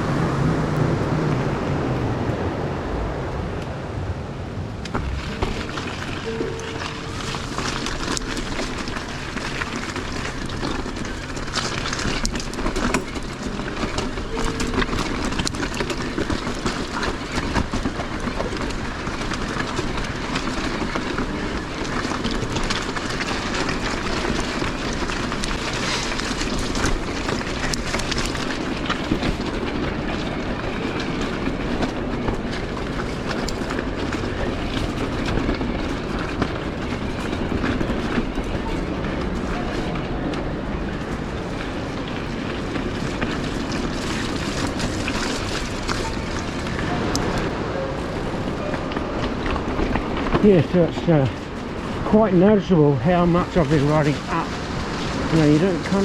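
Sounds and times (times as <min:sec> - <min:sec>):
tyre and wind rush: 0:00.0 - 0:56.0
bike rattling and knocking: 0:04.8 - 0:56.0.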